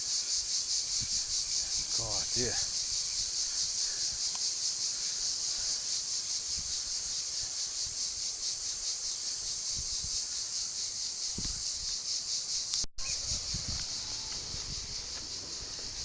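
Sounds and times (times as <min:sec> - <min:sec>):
cicadas singing: 0:00.0 - 0:16.0.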